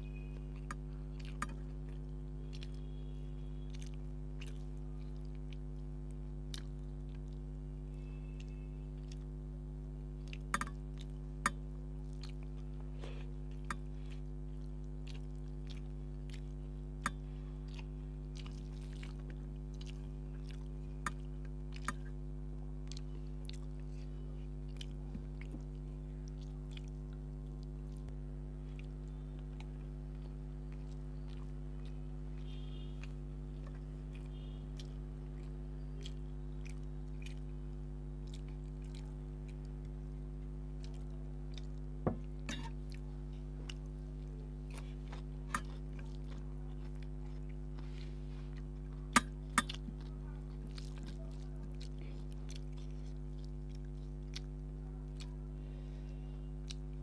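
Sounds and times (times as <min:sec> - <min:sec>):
chewing and wet mouth sounds: 0:00.0 - 0:57.0
steady electrical hum: 0:00.0 - 0:57.0.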